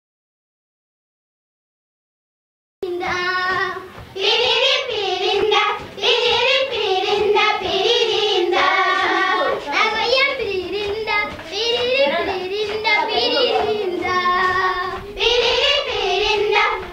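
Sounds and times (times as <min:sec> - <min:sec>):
girls singing together: 0:02.8 - 0:16.9.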